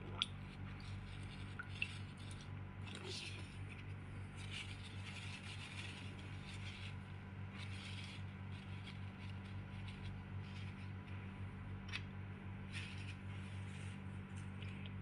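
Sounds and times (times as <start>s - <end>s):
steady low hum: 0.0s - 15.0s
paper tissue rustling: 0.8s - 11.2s, 12.6s - 14.5s.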